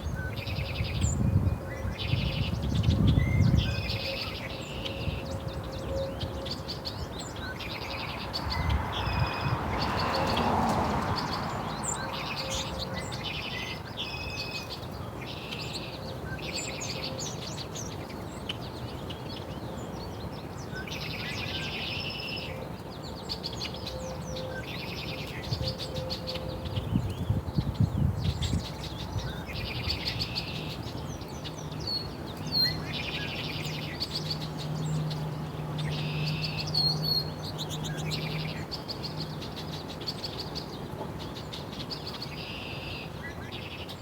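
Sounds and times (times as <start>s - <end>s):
songbirds chirping and singing: 0.0s - 44.0s.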